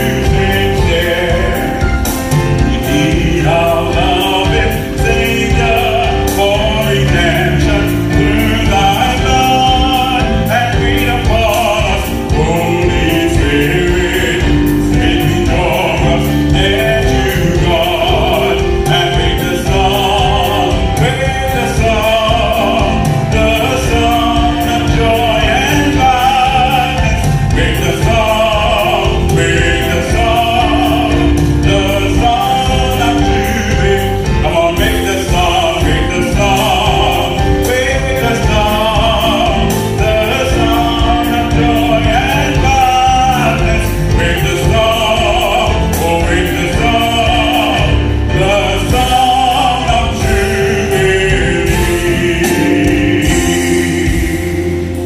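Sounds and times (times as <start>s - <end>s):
instrumental accompaniment with beat: 0.0s - 55.0s
man singing into microphone: 0.0s - 55.0s.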